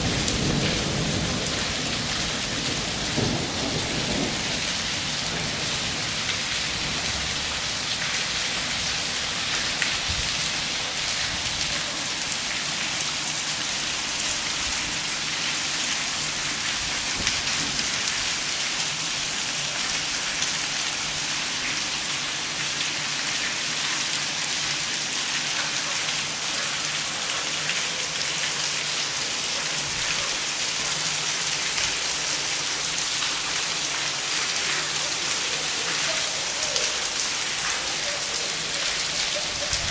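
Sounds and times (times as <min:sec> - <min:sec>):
hail and rain pelting down: 0:00.0 - 0:39.9.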